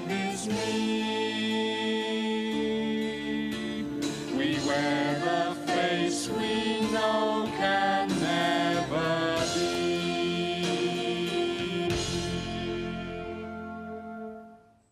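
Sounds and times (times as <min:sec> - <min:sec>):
sustained instrumental backing: 0:00.0 - 0:14.9.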